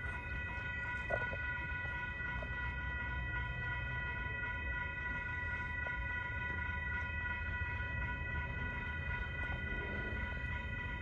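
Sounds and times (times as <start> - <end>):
crossing warning bell ringing: 0.0 - 11.0
freight train rumble: 0.0 - 11.0.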